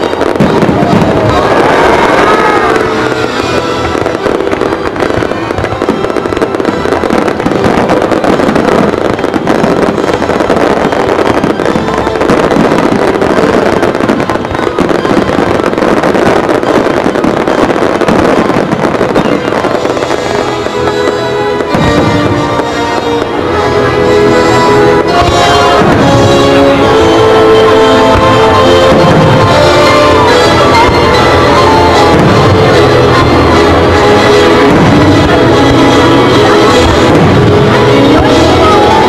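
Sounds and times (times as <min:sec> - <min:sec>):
aerial fireworks bursting: 0:00.0 - 0:39.0
music playing: 0:00.0 - 0:39.0.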